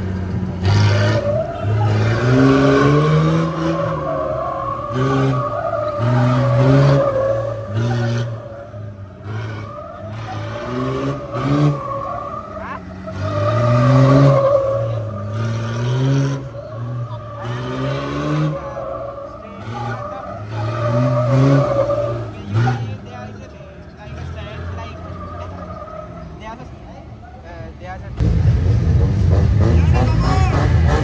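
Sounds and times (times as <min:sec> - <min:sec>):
car engine revving: 0:00.0 - 0:31.0
tyres squealing: 0:00.6 - 0:27.5.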